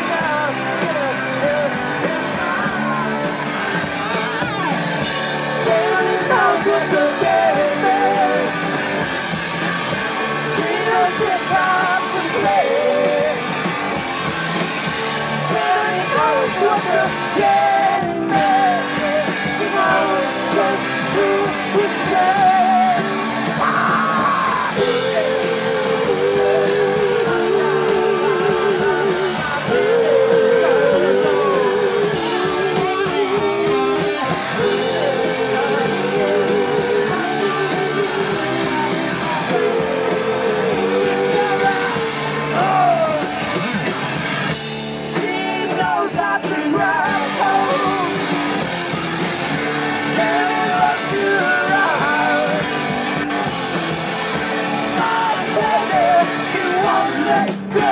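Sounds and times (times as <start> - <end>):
electric guitar wavering riff: 0.0 - 57.9
live rock band playing: 0.0 - 57.9.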